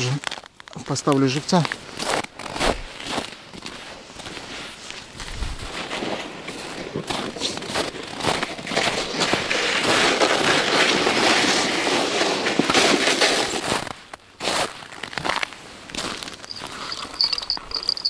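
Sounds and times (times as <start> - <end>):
crackling handling noise: 0.0 - 3.4, 4.4 - 18.0.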